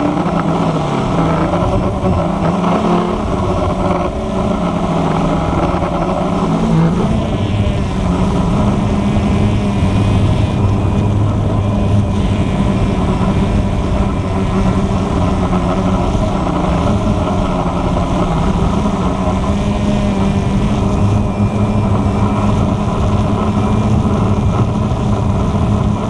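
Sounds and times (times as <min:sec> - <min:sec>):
quadcopter motors buzzing: 0:00.0 - 0:26.0.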